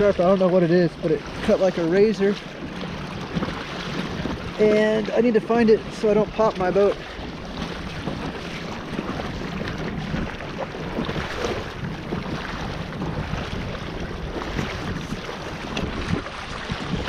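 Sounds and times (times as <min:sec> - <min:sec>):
waves splashing against hull: 0:00.0 - 0:17.0
wind noise on microphone: 0:00.0 - 0:17.0.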